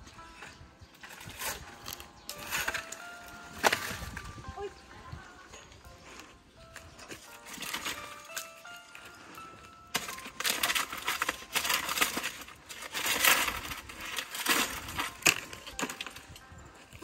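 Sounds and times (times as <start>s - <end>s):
dry leaves crackling and rustling: 0.2s - 4.4s, 5.6s - 17.0s.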